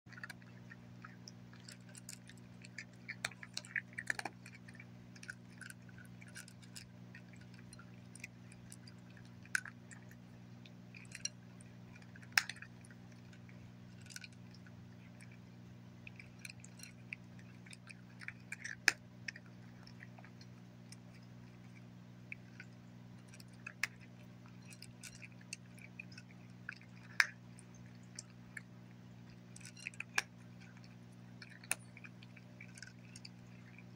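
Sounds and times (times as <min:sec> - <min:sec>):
cat crunching dry kibble: 0:00.1 - 0:33.9
steady low hum: 0:00.1 - 0:33.9.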